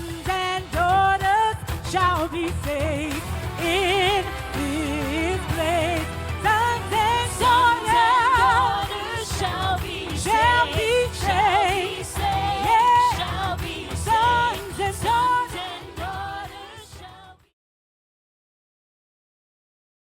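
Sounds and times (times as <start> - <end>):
person singing with vibrato: 0.0 - 17.5.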